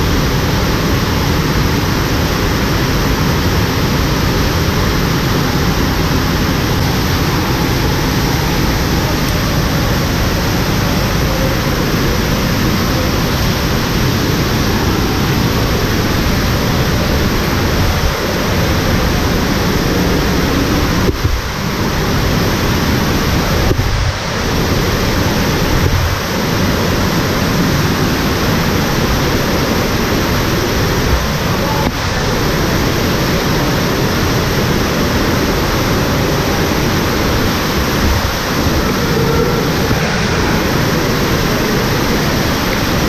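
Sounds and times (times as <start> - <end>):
water rushing down a shaft: 0.0 - 43.0.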